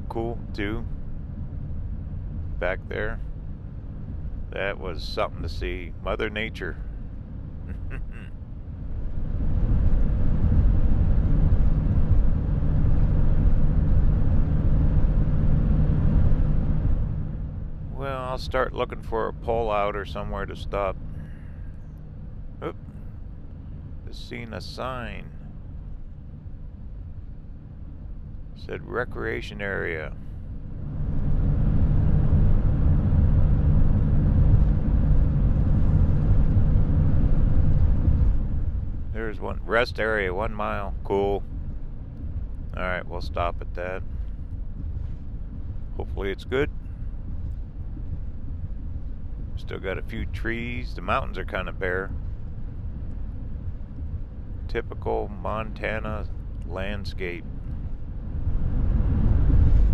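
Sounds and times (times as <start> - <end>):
van driving at highway speed: 0.0 - 24.1, 29.4 - 59.9
faint steady hum: 0.0 - 59.9.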